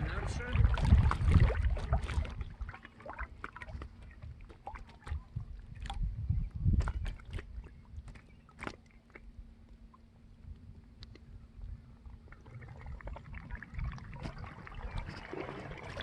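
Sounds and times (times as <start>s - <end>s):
faint steady hum: 0.0s - 16.0s
water sloshing against boat: 0.0s - 16.0s.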